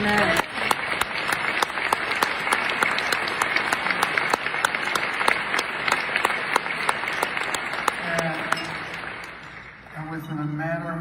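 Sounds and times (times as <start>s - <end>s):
close sharp claps: 0.0s - 9.9s
audience applauding: 0.0s - 10.2s.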